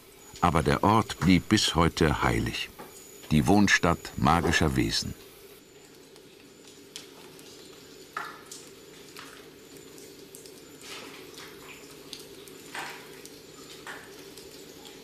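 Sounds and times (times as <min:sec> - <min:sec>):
water dripping: 0:00.1 - 0:15.0.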